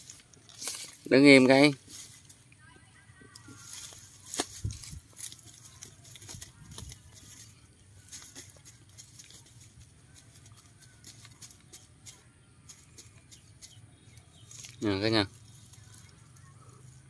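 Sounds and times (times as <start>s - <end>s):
rustling in dry grass: 0.0s - 17.0s.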